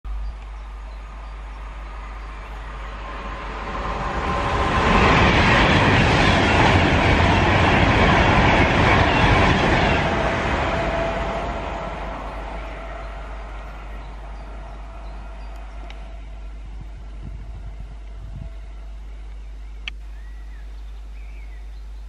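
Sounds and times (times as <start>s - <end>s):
electric train passing at speed: 0.5s - 20.0s.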